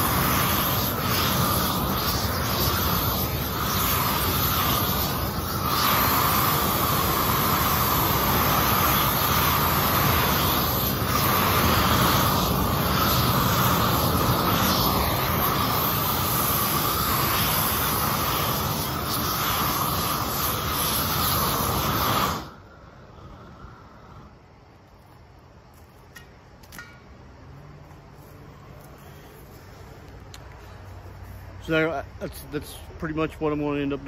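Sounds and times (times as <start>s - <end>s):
propane torch hissing: 0.0s - 24.8s, 28.6s - 34.0s.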